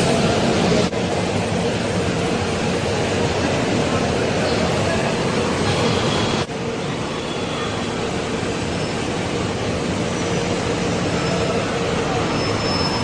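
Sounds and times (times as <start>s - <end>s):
moving vehicle noise: 0.0s - 13.0s.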